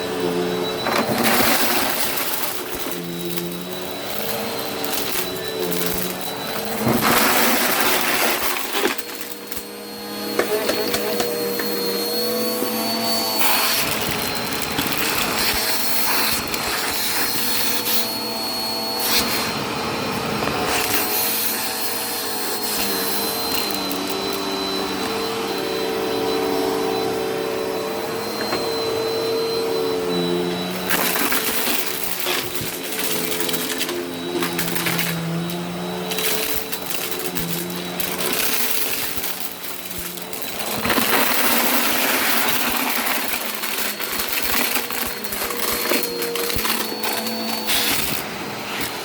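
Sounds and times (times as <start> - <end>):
debris crackling through nozzle: 0.0 - 18.2, 20.6 - 24.6, 30.0 - 49.0
vacuum cleaner whining: 0.0 - 49.0.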